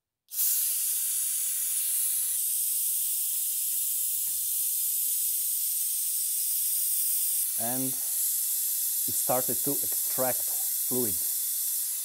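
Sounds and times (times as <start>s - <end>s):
vacuum brake bleeder hissing: 0.3s - 12.0s.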